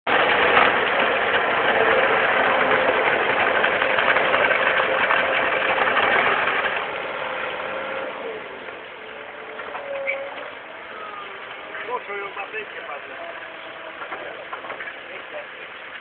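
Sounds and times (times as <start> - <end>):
milling machine grinding road: 0.1 - 16.0.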